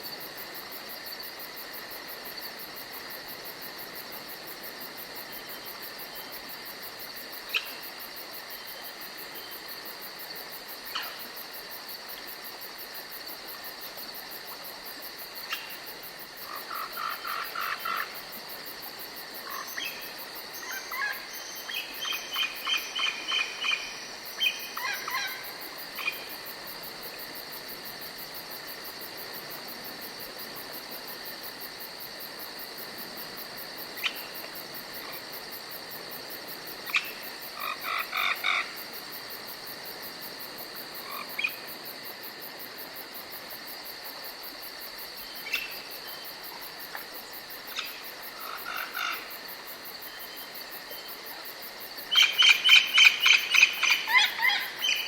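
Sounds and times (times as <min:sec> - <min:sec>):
frogs croaking: 0:00.0 - 0:43.4, 0:44.0 - 0:55.0
insects chirping: 0:00.0 - 0:55.0.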